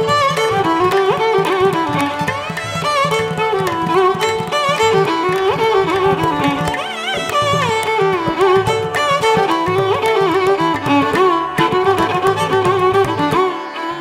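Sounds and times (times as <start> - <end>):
light percussion: 0.0 - 14.0.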